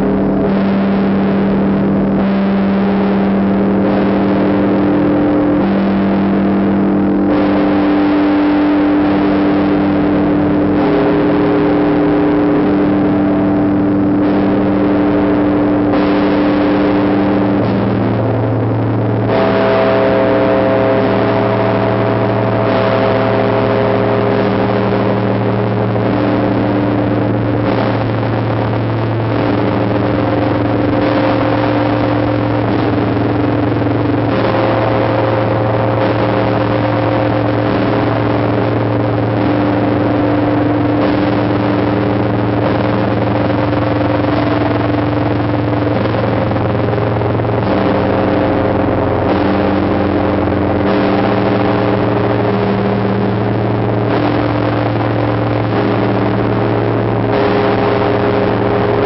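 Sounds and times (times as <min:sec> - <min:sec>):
large bell ringing: 0:02.2 - 0:59.0.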